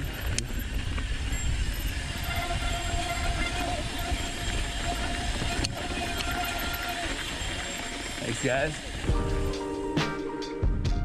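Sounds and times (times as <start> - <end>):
wind buffeting camera: 0.0 - 9.8
bike hub freewheel buzz: 0.0 - 10.8
bike tyre rumble: 0.0 - 11.0.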